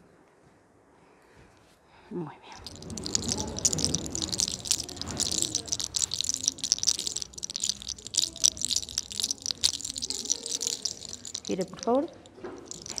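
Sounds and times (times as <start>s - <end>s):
fingers rustling through hair: 2.6s - 13.0s.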